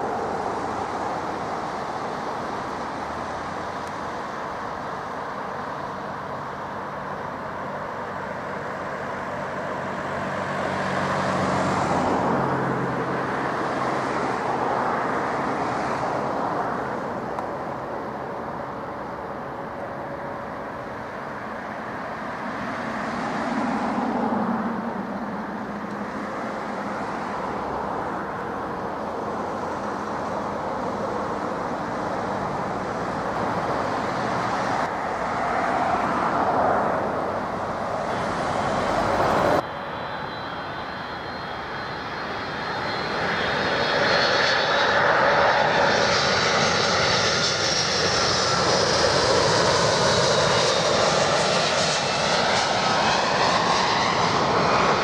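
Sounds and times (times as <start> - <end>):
jet engine high whine: 0.0 - 55.0
jet engines on approach: 0.0 - 55.0.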